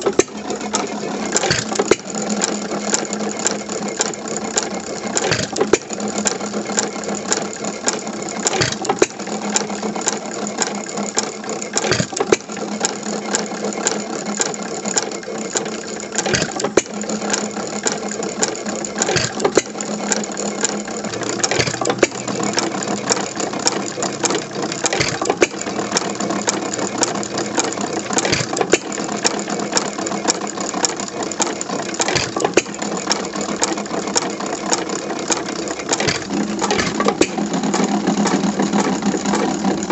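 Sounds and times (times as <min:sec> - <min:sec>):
valve gear and igniter clicking: 0:00.0 - 0:10.2, 0:13.9 - 0:39.9
gas engine running: 0:00.0 - 0:39.9.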